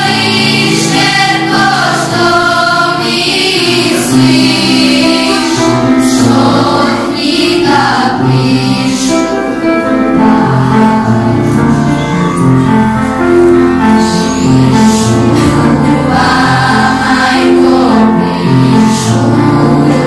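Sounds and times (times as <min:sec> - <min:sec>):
children's choir singing: 0:00.0 - 0:20.0
low held accompaniment notes: 0:00.0 - 0:20.0.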